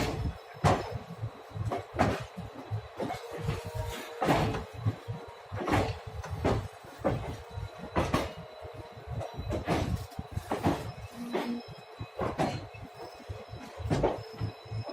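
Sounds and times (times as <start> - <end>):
train knocks and clanks: 0.0 - 14.9
train rumbling: 0.0 - 14.9.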